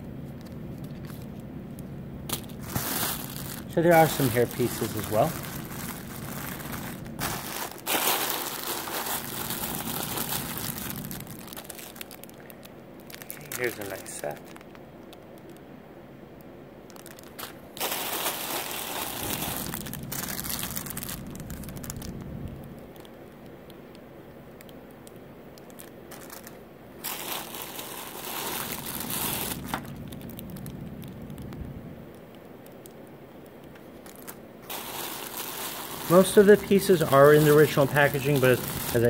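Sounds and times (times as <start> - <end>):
low steady hum: 0.0 - 39.0
plastic bags crinkling: 0.7 - 15.6, 16.8 - 23.4, 24.6 - 31.6, 33.8 - 39.0.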